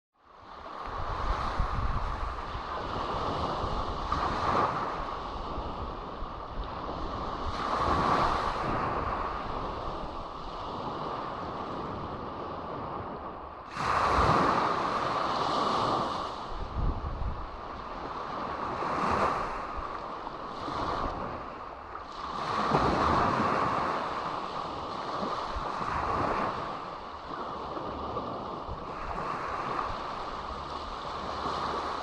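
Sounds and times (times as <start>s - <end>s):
sea waves breaking on beach: 0.3s - 32.0s.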